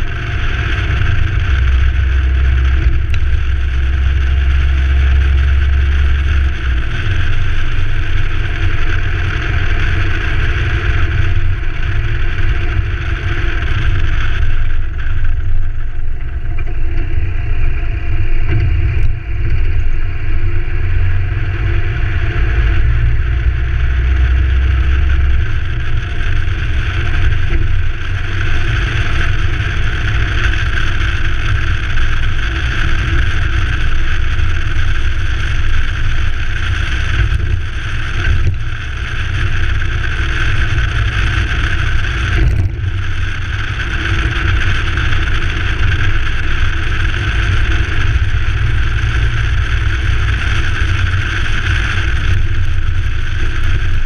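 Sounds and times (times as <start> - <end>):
vehicle driving on dirt track: 0.0 - 54.0.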